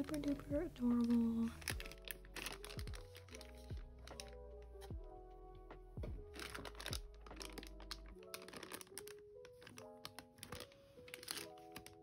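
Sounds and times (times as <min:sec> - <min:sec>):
lo-fi background music: 0:00.0 - 0:12.0.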